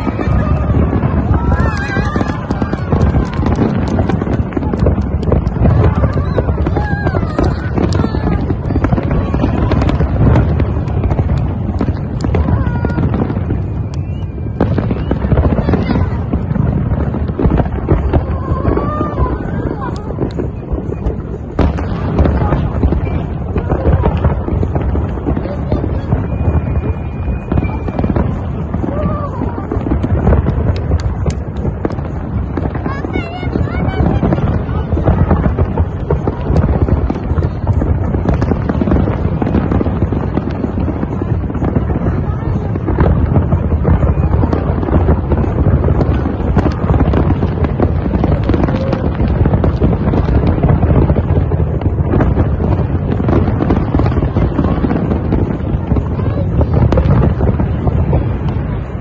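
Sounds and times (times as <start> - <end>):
fireworks bangs and booms: 0.0 - 59.0
fireworks sharp cracks: 0.0 - 59.0
wind buffeting microphone: 0.0 - 59.0.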